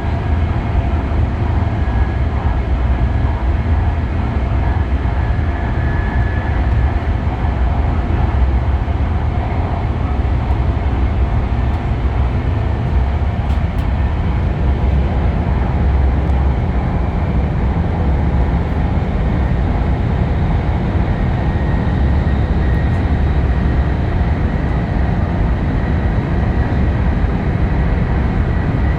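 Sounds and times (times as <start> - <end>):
train rumbling: 0.0 - 28.9.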